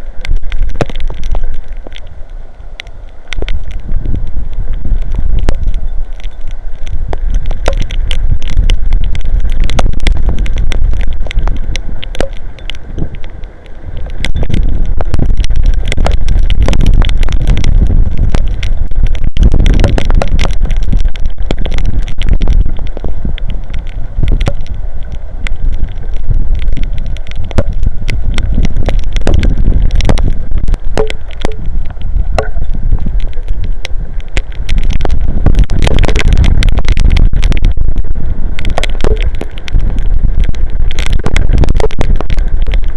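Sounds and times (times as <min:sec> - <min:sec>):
heavy rain drops striking: 0:00.0 - 0:42.9
wind buffeting microphone: 0:03.3 - 0:42.9.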